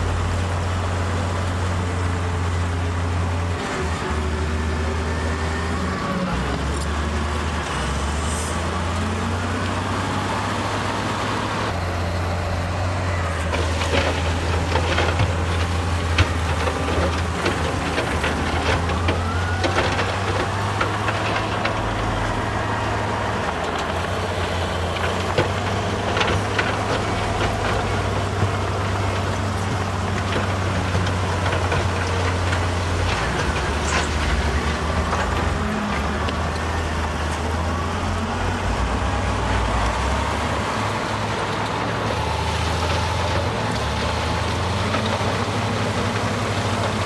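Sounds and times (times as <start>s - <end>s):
diesel engine of heavy machinery: 0.0s - 47.0s.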